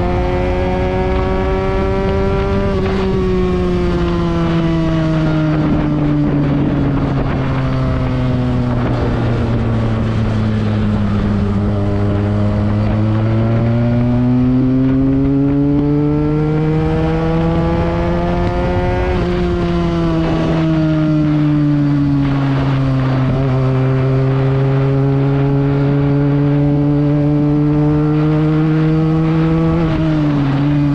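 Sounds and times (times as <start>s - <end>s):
motorcycle engine under load: 0.0s - 30.9s.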